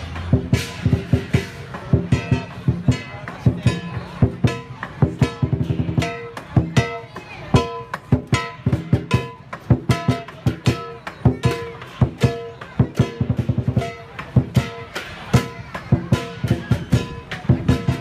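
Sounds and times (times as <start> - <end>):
drum strikes: 0.0 - 18.0.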